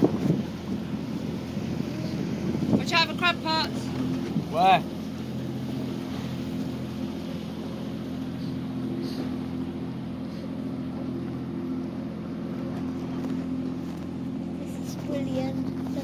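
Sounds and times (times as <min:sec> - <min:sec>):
boat engine running: 0:00.0 - 0:16.0
wind and water hiss: 0:00.0 - 0:16.0.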